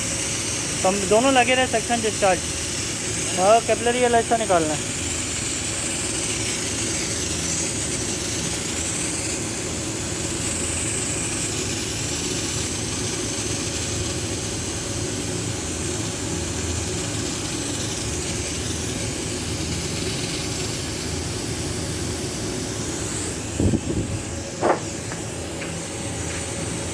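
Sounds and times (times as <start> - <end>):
gas hissing through pipes: 0.0 - 26.9.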